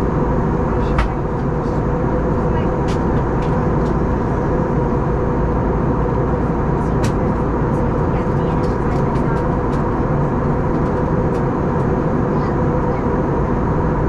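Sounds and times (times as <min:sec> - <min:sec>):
airplane engine drone: 0:00.0 - 0:14.0
steady hum: 0:00.0 - 0:14.0.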